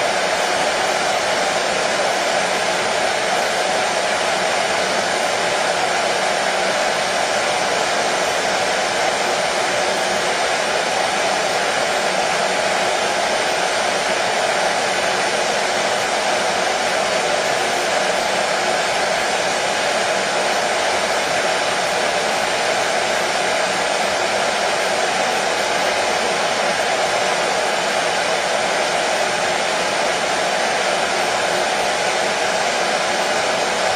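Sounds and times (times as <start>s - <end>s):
hair dryer blowing: 0.0s - 33.9s.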